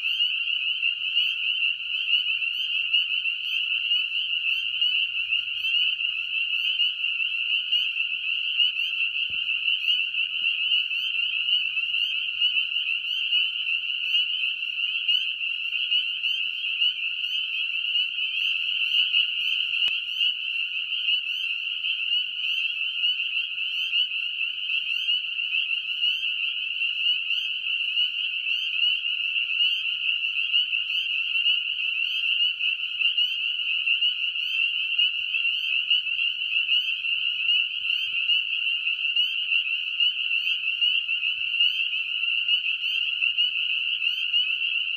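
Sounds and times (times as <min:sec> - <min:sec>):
frogs peeping chorus: 0:00.0 - 0:44.9.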